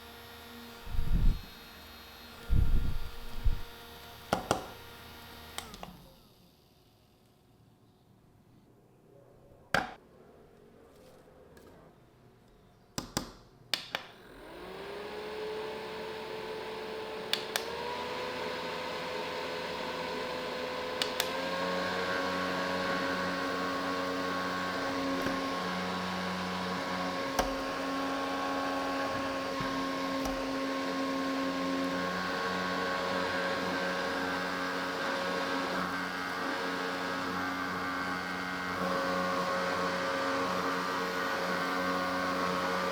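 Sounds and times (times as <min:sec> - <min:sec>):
desk fan motor whirring: 0:00.0 - 0:07.1, 0:14.1 - 0:42.9.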